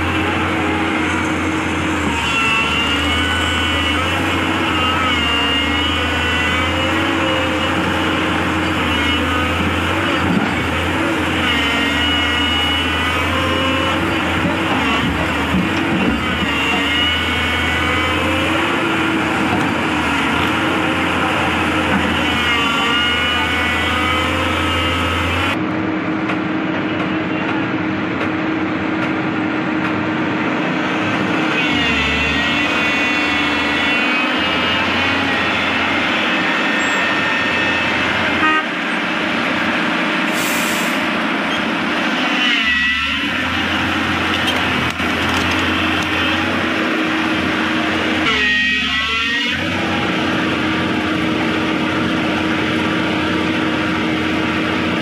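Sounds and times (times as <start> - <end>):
hydraulic whine: 0.0 - 25.6, 30.4 - 55.0
diesel engine running: 0.0 - 55.0.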